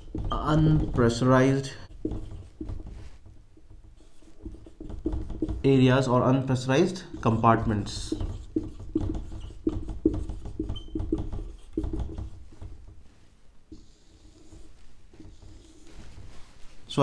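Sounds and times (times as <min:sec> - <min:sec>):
marker writing on a whiteboard: 0:00.0 - 0:17.0.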